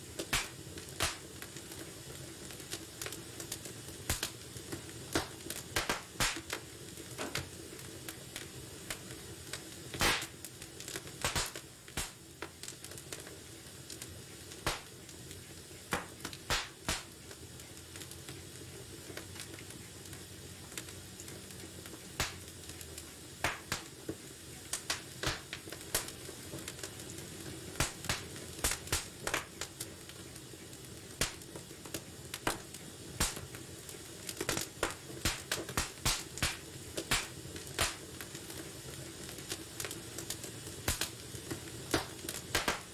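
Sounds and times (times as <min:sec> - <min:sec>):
fireplace fire crackling: 0:00.0 - 0:42.9
low hiss: 0:00.0 - 0:42.9.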